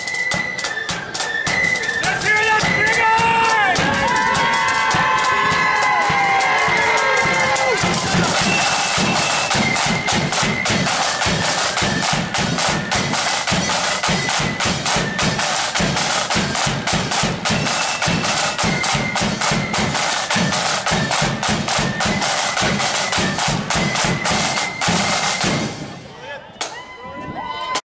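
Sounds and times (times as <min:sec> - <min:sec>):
snare drums fast beat: 0:00.3 - 0:26.0.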